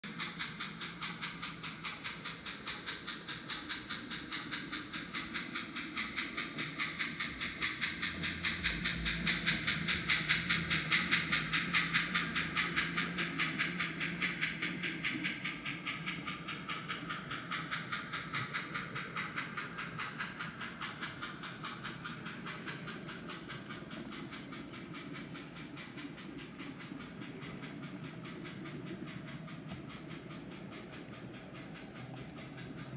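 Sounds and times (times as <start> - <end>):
model train steam chuffs: 0.0 - 32.9.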